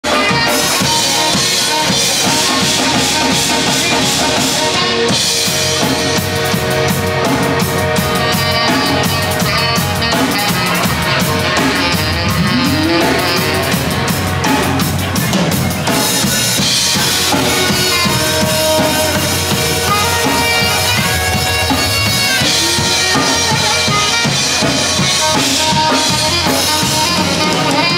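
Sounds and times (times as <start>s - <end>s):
bass guitar: 0.0s - 27.9s
drum kit beat with rimshots: 0.0s - 27.9s
guitar: 0.0s - 27.9s.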